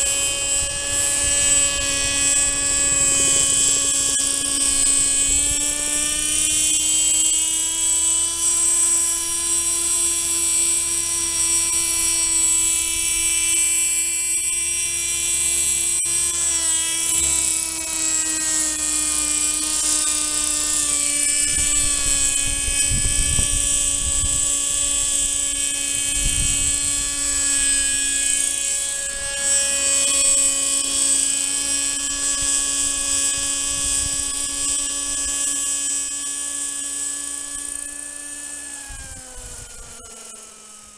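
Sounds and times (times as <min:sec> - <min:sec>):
model helicopter engine buzzing: 0:00.0 - 0:40.9.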